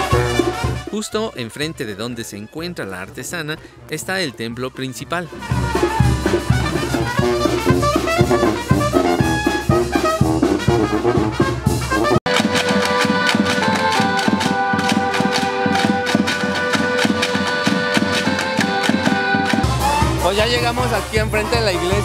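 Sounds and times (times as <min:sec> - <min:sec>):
brass band playing: 0:00.0 - 0:02.6, 0:04.2 - 0:22.0.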